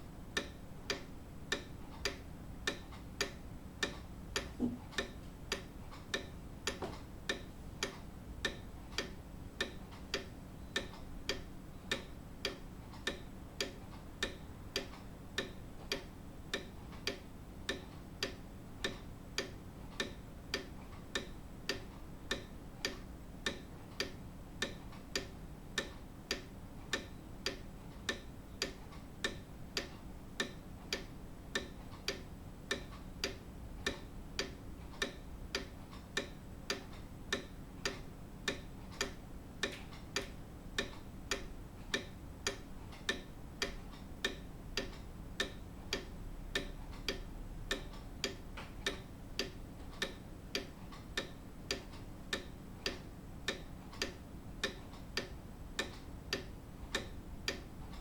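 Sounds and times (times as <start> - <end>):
clock ticking: 0.2 - 58.0.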